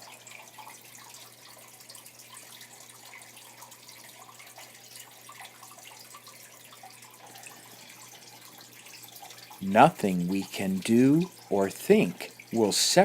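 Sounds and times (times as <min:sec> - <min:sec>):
trickling water: 0:00.0 - 0:13.0.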